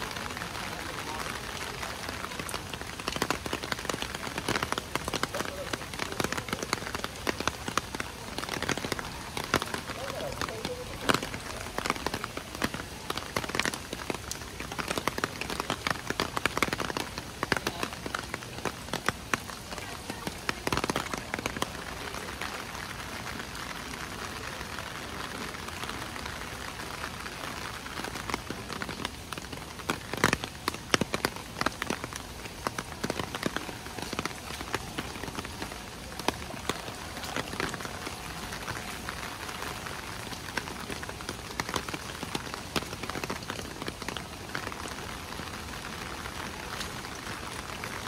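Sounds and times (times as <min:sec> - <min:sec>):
sharp raindrop hits: 0:00.0 - 0:48.0
steady rain falling: 0:00.0 - 0:48.0.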